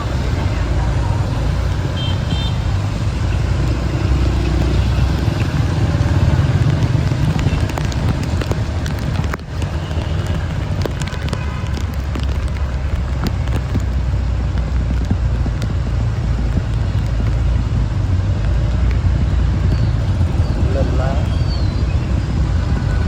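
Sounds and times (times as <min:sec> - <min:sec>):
crackles: 0:00.0 - 0:23.0
vehicle engine low rumble: 0:00.0 - 0:23.0.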